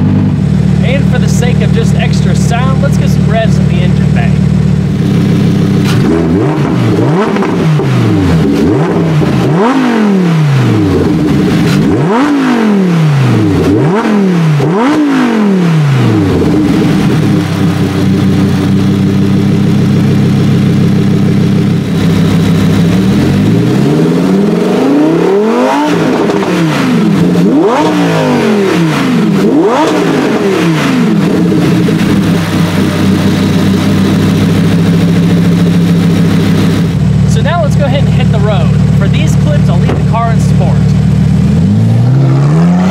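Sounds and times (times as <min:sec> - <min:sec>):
car engine idling: 0:00.0 - 0:42.9
sports car engine revving: 0:00.0 - 0:42.9.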